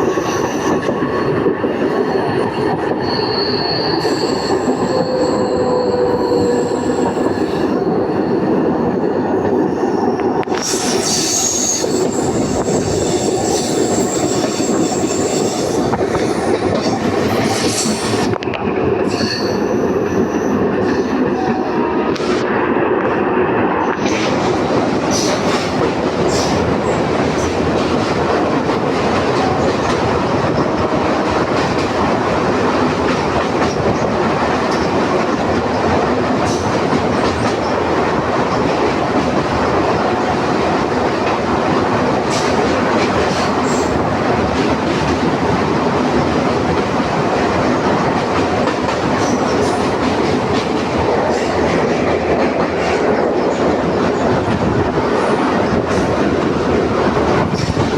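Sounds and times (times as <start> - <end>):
train wheels rumbling on track: 0.0 - 57.9.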